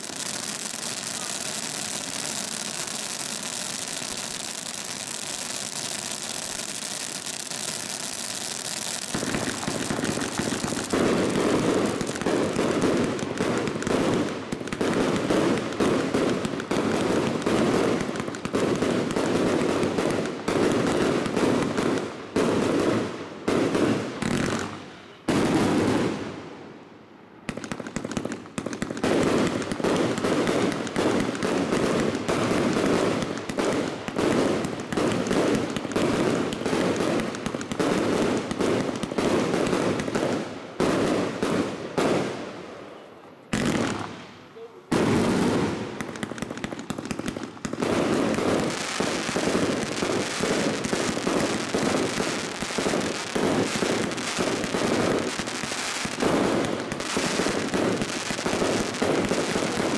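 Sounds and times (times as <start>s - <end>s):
fireworks launches and bursts: 0.0s - 26.7s, 27.4s - 59.9s.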